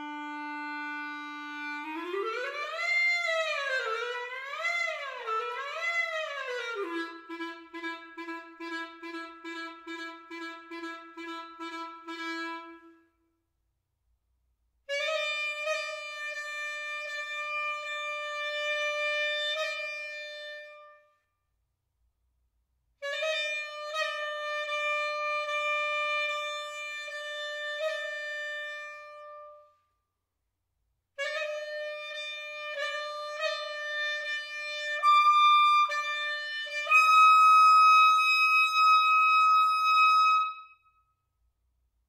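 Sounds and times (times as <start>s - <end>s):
solo clarinet playing: 0.0s - 13.2s, 14.9s - 21.1s, 23.0s - 29.8s, 31.2s - 40.9s.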